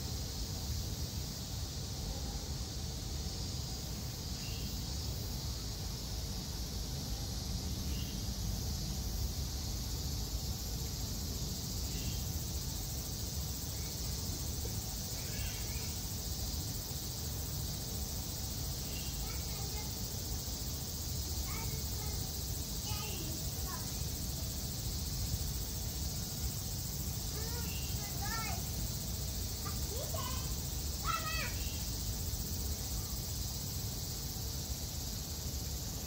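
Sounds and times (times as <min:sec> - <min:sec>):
high hiss: 0:00.0 - 0:36.0.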